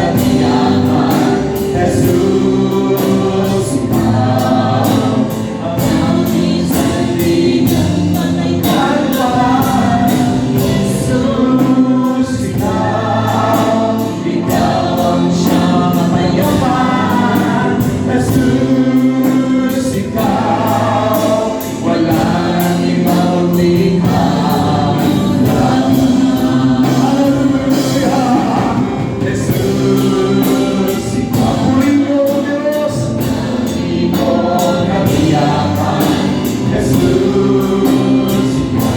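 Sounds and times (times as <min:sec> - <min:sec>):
band accompaniment with steady beat: 0:00.0 - 0:38.9
congregation singing worship song: 0:00.0 - 0:38.9.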